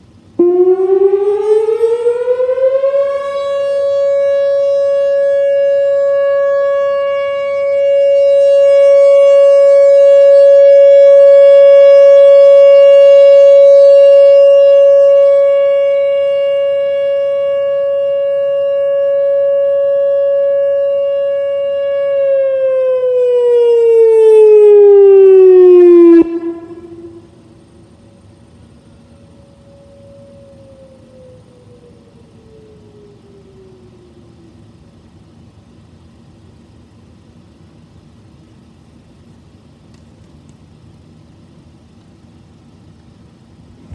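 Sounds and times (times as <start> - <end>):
tornado siren steady tone: 0.0 - 43.9
siren echo: 0.4 - 35.8.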